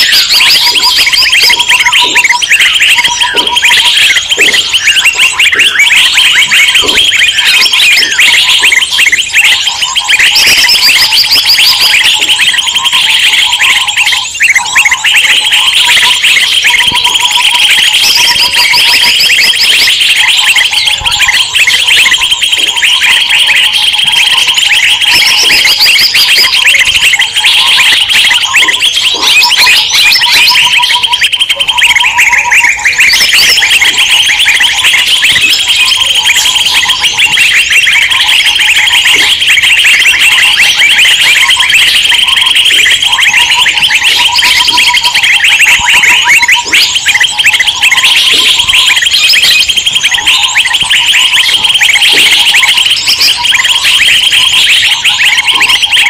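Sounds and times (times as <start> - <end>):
lower repeated bird call: 0.0 - 56.0
small birds chirping and twittering: 0.0 - 56.0.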